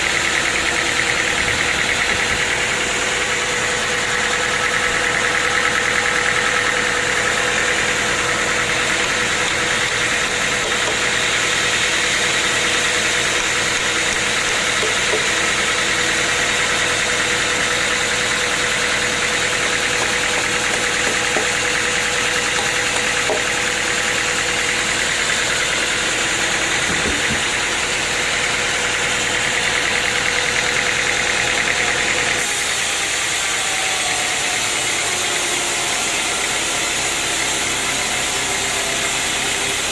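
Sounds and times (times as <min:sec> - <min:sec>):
machinery whine: 0:00.0 - 0:37.1
sawmill machinery drone: 0:00.0 - 0:39.9.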